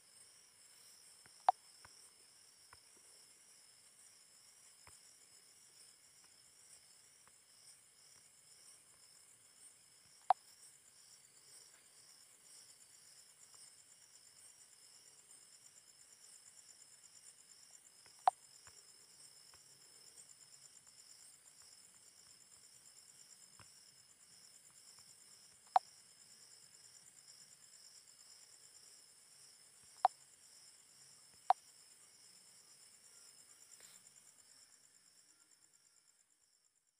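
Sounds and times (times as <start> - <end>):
insects chirping: 0.0 - 36.9.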